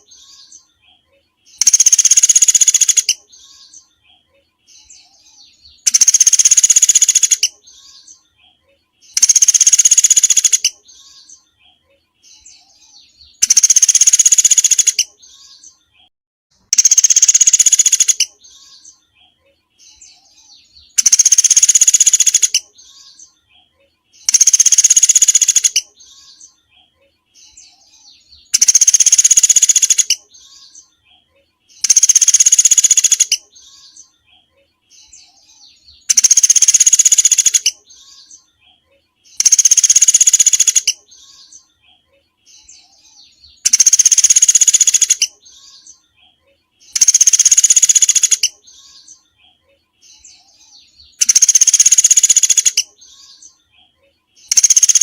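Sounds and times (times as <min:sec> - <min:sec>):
buzzy songbird phrase: 0:00.0 - 0:16.1, 0:16.7 - 0:55.0
soft bird chirps: 0:00.0 - 0:55.0.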